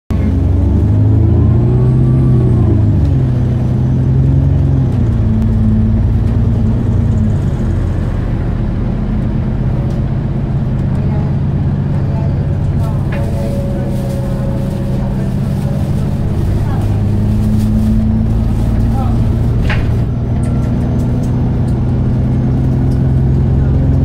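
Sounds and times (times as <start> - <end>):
bus engine humming and whining: 0.1 - 24.0.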